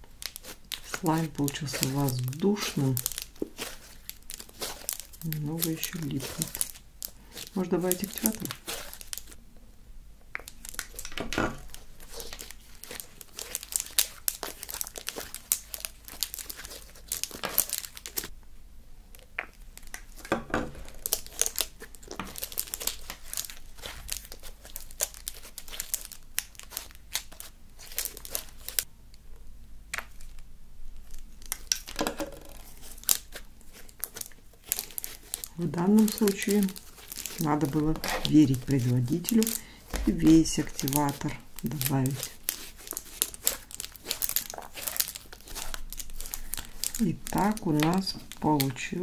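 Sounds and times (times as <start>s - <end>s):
slime crackling and popping: 0.0s - 9.4s, 10.2s - 18.3s, 19.1s - 28.9s, 29.9s - 49.0s.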